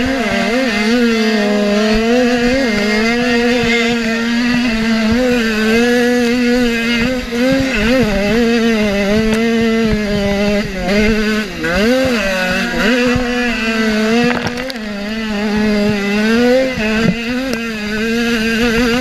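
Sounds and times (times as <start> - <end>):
dirt bike engine at high revs: 0.0 - 19.0.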